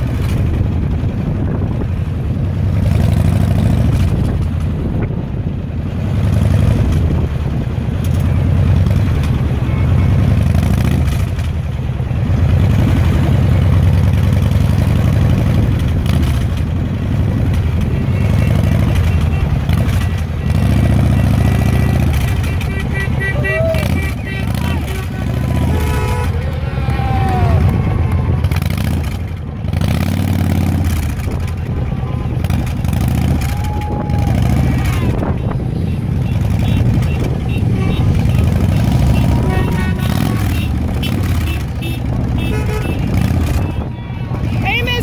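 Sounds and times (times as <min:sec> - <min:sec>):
car road noise rumble: 0:00.0 - 0:45.0.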